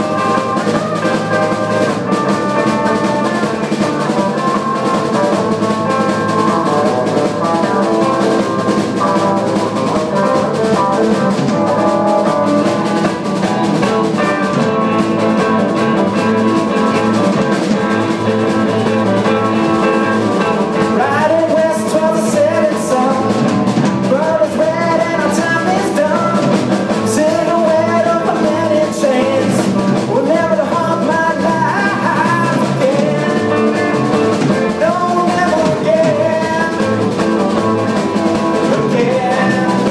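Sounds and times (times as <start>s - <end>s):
bass guitar: 0.0s - 39.9s
drum kit: 0.0s - 39.9s
electric guitar: 0.0s - 39.9s
man singing: 0.0s - 39.9s.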